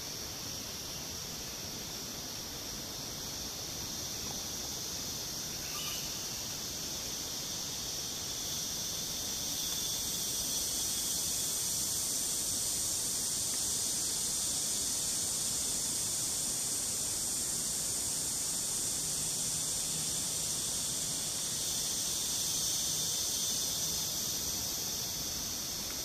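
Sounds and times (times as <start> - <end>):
insects buzzing: 0.0 - 26.0.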